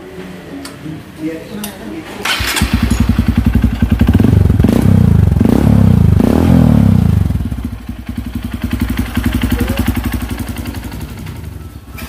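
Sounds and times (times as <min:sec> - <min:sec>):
motorcycle engine revving: 0:02.2 - 0:12.0.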